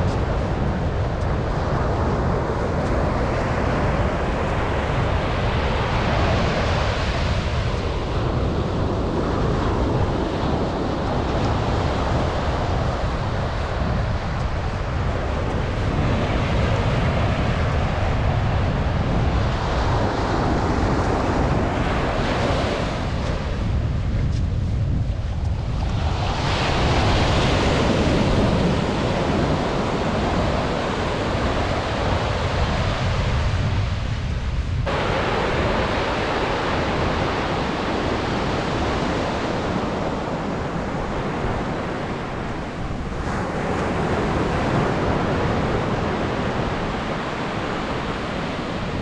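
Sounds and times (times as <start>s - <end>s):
waves breaking on a beach: 0.0s - 49.0s
wind buffeting microphone: 0.0s - 49.0s.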